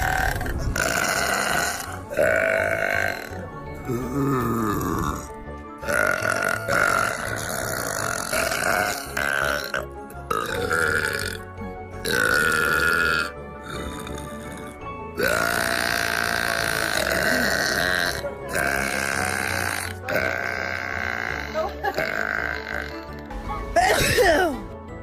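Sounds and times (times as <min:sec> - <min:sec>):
long drawn-out burps: 0:00.0 - 0:24.7
background music: 0:00.0 - 0:25.0.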